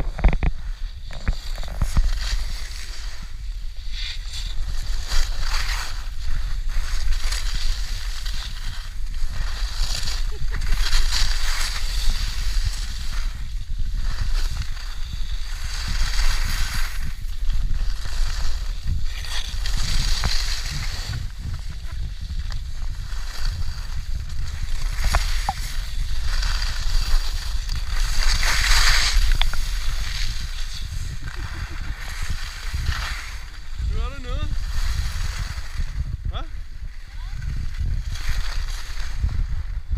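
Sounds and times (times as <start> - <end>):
skis carving on snow: 0.0 - 39.9
wind rumble on microphone: 0.0 - 39.9.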